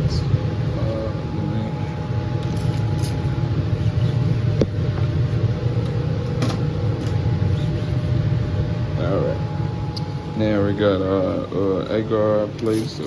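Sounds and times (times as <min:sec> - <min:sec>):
blower running: 0:00.0 - 0:13.0.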